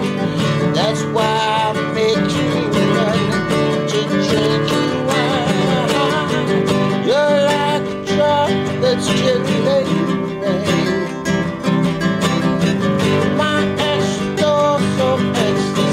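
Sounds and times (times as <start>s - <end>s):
classical guitar strumming: 0.0s - 15.9s
man singing: 0.0s - 15.9s.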